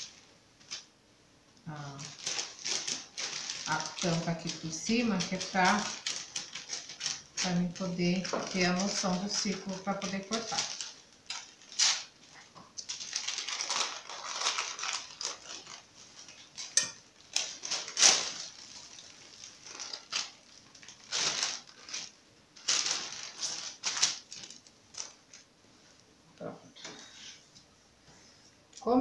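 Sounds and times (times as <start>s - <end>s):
parchment paper rustling and crinkling: 0.0s - 0.9s, 1.7s - 26.0s.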